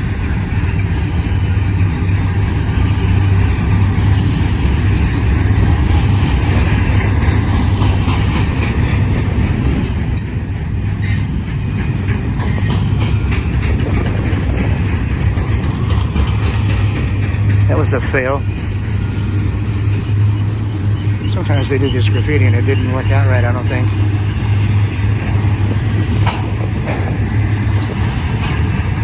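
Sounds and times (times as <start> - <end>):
train wheels rumbling on rails: 0.0 - 29.0
wheels clicking over rail joints: 0.0 - 29.0.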